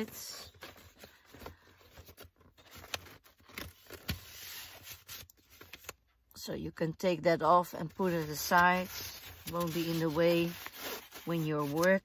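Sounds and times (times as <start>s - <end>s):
paper rustling and scraping: 0.0s - 6.0s, 8.0s - 12.0s.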